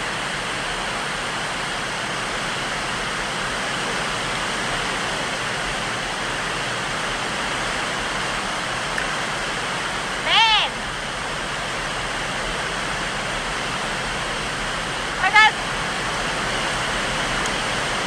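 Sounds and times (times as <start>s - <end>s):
river water rushing over rapids: 0.0s - 18.0s.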